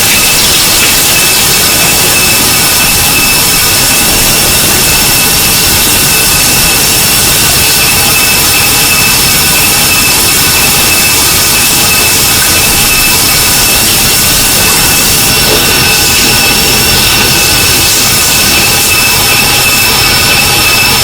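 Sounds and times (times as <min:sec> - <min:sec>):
shower water spraying: 0:00.0 - 0:21.0
water heater high-pitched whistle: 0:00.0 - 0:21.0.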